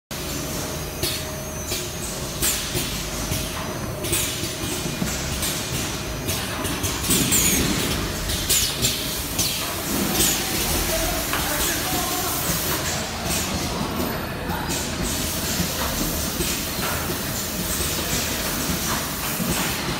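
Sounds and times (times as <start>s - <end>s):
conveyor machine hum: 0.1s - 19.9s.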